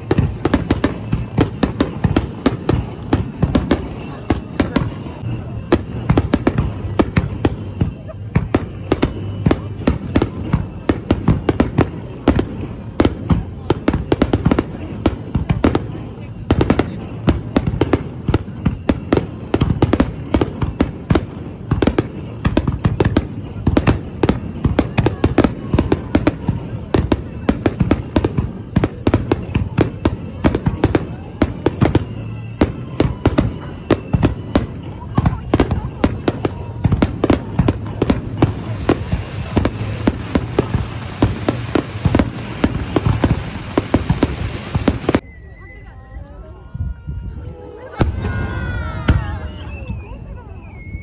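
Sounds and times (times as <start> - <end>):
fireworks cracks and booms: 0.0 - 45.2, 48.0 - 50.1.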